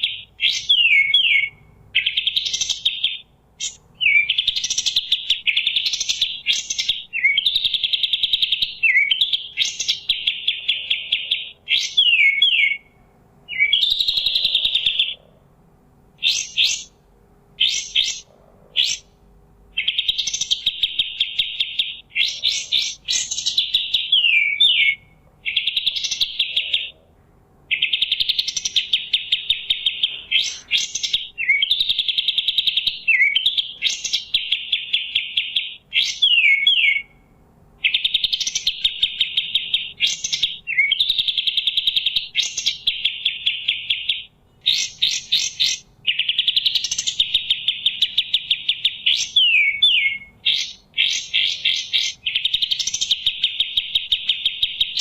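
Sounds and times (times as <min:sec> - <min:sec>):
bird singing chattering trills: 0:00.0 - 0:15.4, 0:16.2 - 0:17.0, 0:17.6 - 0:27.1, 0:27.7 - 0:55.0.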